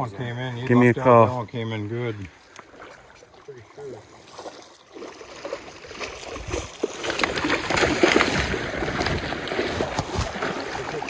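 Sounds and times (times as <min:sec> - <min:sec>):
water splashing in shallow stream: 0:01.0 - 0:11.0.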